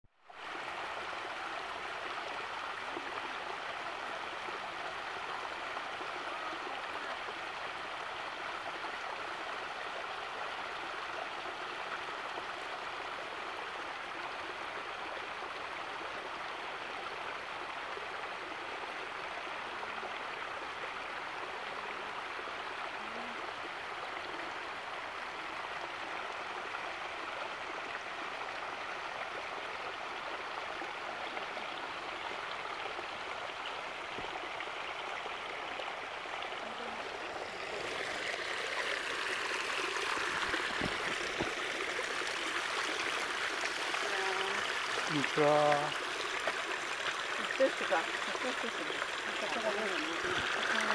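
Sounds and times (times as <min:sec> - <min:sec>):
snowmelt water rushing: 0:00.3 - 0:50.9.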